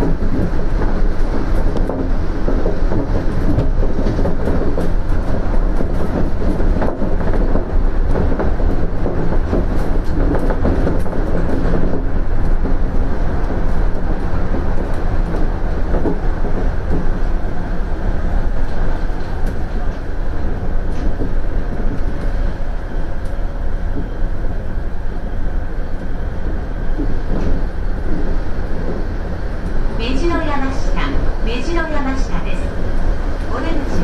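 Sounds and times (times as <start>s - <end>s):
monorail running noise: 0.0s - 34.0s.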